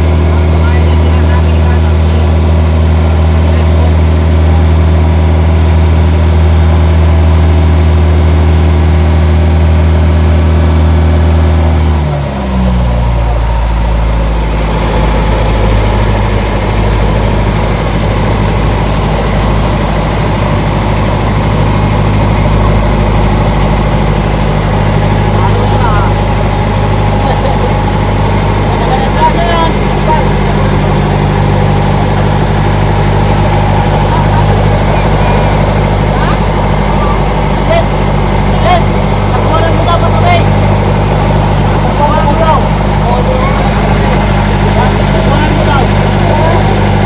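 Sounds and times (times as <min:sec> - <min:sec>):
heavy engine droning: 0:00.0 - 0:47.0.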